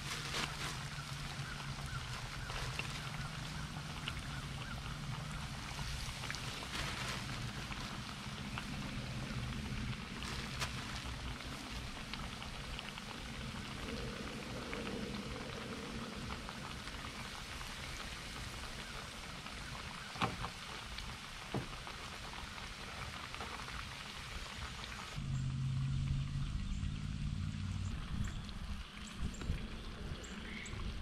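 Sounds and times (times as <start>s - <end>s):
oil popping: 0.0s - 30.6s
fish frying in hot oil: 0.0s - 31.0s.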